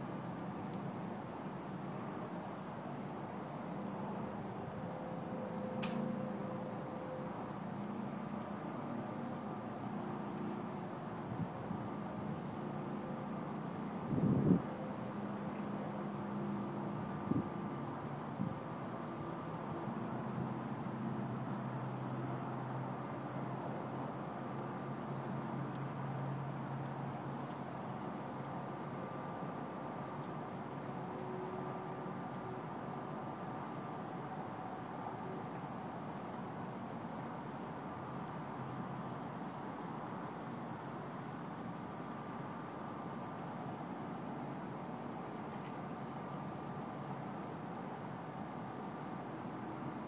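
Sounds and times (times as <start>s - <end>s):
crickets chirping: 0.0s - 50.0s
steady background noise: 0.0s - 50.0s.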